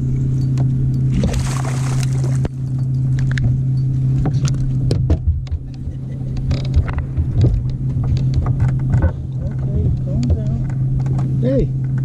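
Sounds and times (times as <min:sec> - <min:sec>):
electric trolling motor humming: 0:00.0 - 0:12.0.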